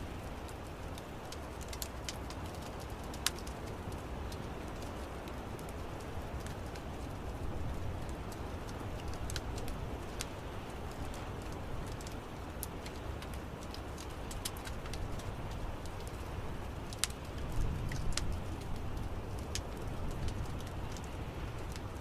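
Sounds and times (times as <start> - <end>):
low rumble of burning: 0.0 - 22.0
wood fire crackling and popping: 0.0 - 22.0.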